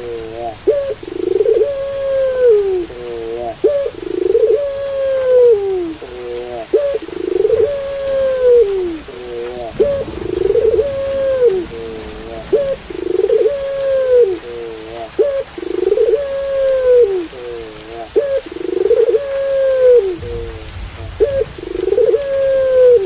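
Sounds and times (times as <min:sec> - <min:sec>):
dove cooing: 0:00.0 - 0:23.0.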